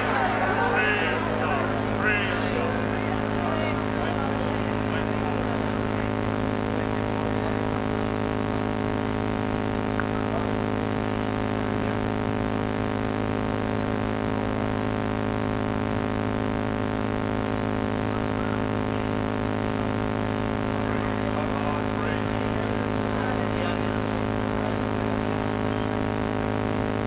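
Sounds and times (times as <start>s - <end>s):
mains hum: 0.0s - 27.0s.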